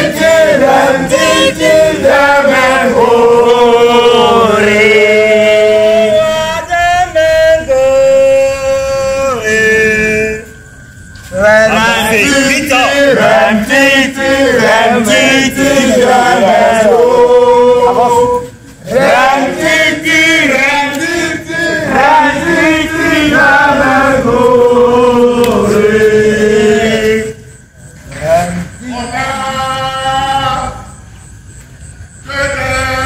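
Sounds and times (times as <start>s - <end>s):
men chanting together: 0.0s - 10.4s, 11.3s - 27.4s.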